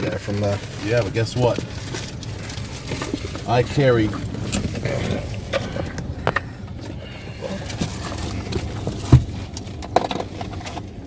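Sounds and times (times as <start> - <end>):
rustling and knocks of handling: 0.0 - 11.0.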